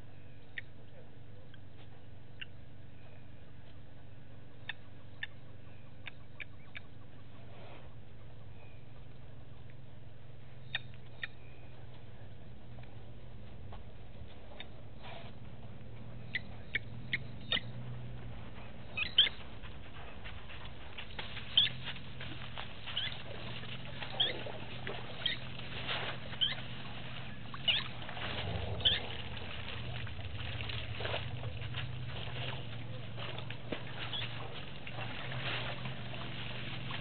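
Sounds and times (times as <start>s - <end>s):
steady low hum: 0.0s - 37.0s
birds chirping: 0.1s - 37.0s.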